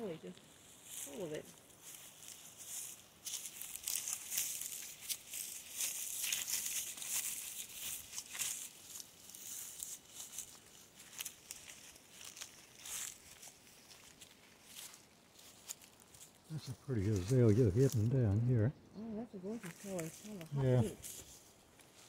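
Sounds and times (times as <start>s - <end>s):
footsteps crackling through leaves: 0.0s - 18.0s, 19.6s - 22.0s.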